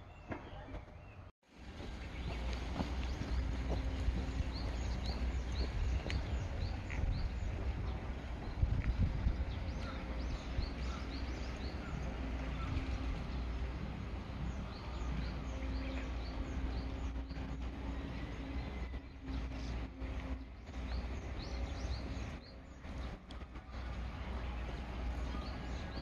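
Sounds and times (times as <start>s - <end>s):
small birds chirping: 0.0s - 26.0s
steady low rumble: 1.5s - 26.0s
low steady hum: 1.6s - 26.0s.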